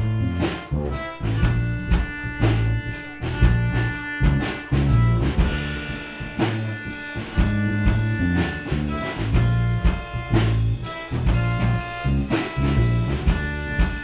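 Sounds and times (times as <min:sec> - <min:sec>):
drum kit beat: 0:00.0 - 0:14.0
rock band playing: 0:00.0 - 0:14.0.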